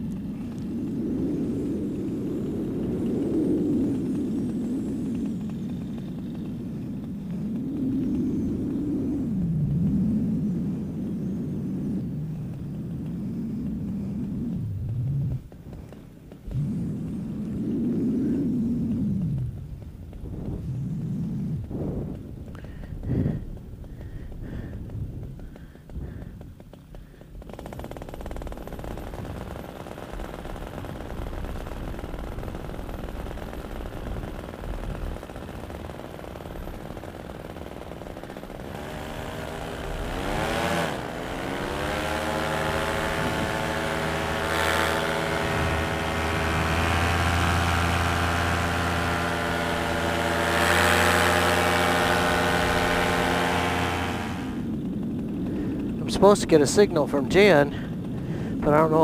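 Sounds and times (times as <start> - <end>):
paramotor engine drone: 0.0 - 59.0.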